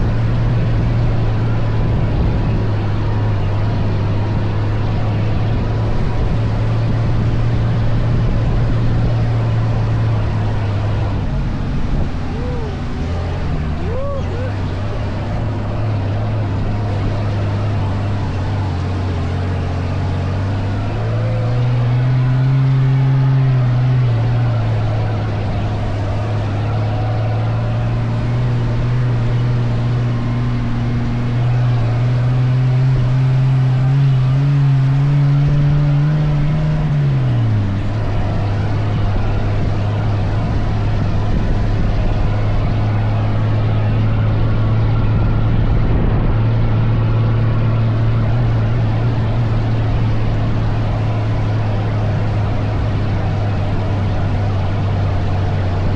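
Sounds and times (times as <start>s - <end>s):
dune buggy engine running: 0.0s - 55.9s.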